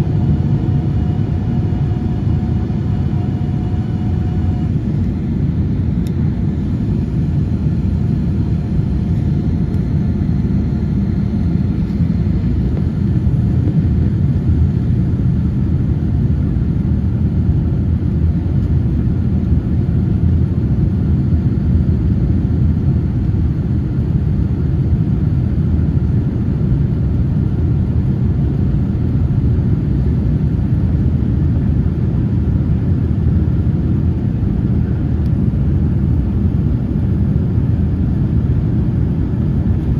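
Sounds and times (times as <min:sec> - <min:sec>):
jet airliner engines rumbling: 0:00.0 - 0:39.9.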